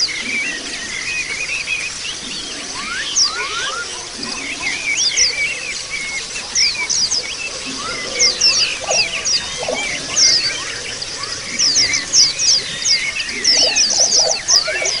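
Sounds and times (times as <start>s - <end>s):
flock of birds twittering: 0.0s - 15.0s.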